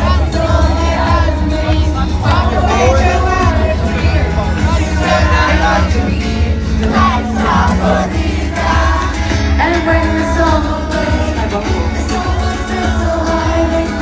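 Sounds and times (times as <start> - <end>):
amplified pop music with singing: 0.0 - 14.0.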